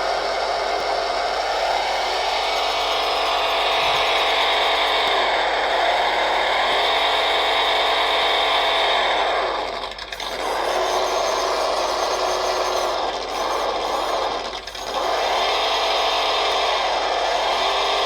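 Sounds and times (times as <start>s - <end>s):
rc car drivetrain whine: 0.0s - 18.0s.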